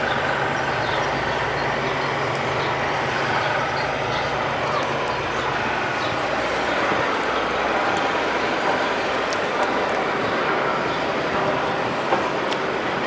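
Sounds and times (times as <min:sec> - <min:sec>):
street traffic engines humming: 0:00.0 - 0:13.0.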